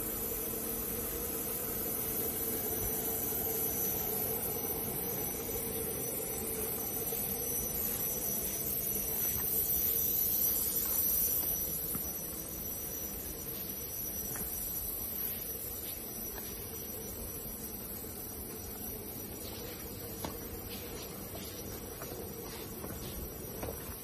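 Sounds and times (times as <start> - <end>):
cnc router whine: 0.0 - 24.0.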